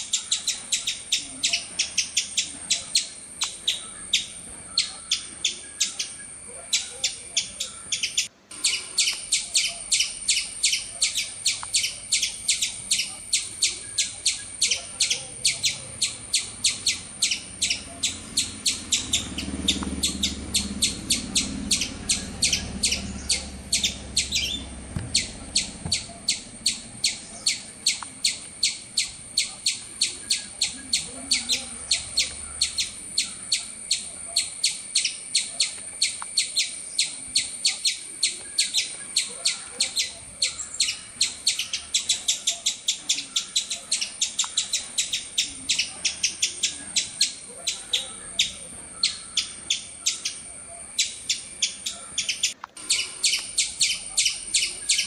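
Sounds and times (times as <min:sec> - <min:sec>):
bird chirping: 0:00.0 - 0:55.0
steady high-pitched whine: 0:02.4 - 0:55.0.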